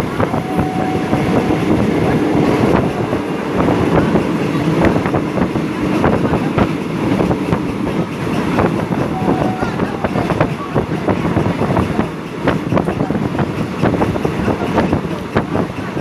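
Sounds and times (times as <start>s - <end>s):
train wheels rumbling on rails: 0.0s - 16.0s
wind noise on microphone: 0.0s - 16.0s.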